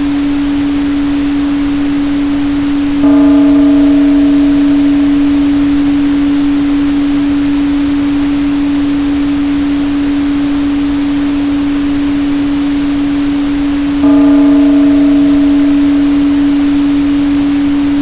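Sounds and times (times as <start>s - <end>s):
sine tone: 0.0s - 18.0s.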